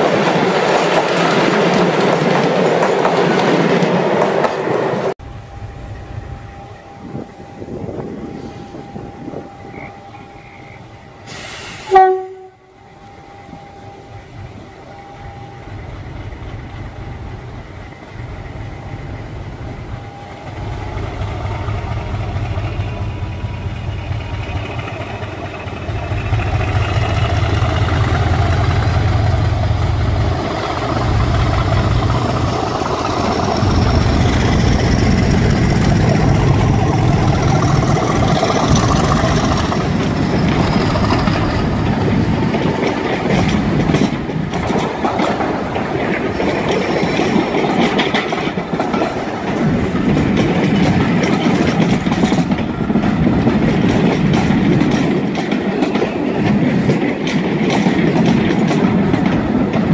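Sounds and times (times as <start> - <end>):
train wheels clicking over rail joints: 0.0 - 5.1, 15.6 - 59.9
diesel locomotive engine whine: 0.0 - 59.9.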